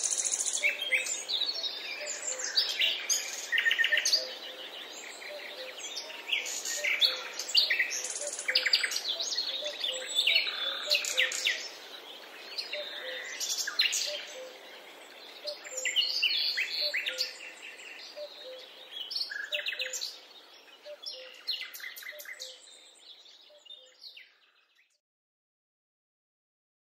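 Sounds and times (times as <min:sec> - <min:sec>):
songbirds chirping and singing: 0:00.0 - 0:25.0.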